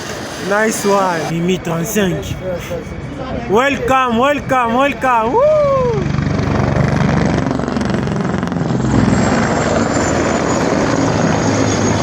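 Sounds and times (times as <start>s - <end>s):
helicopter rotor beating: 0.0s - 12.0s
high turbine whine: 0.0s - 12.0s.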